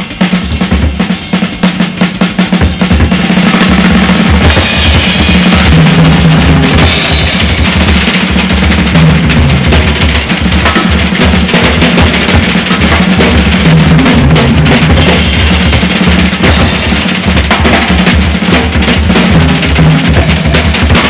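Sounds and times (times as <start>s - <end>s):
busy drum-kit playing: 0.0s - 21.0s.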